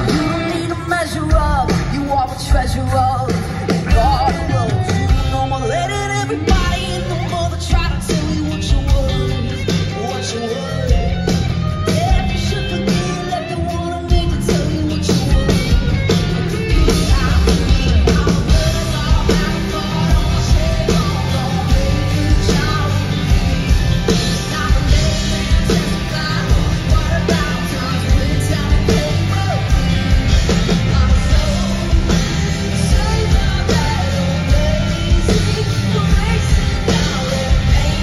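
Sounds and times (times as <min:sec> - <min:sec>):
drum kit beat: 0:00.0 - 0:38.0
electric guitars: 0:00.0 - 0:38.0
woman singing lead: 0:00.0 - 0:38.0.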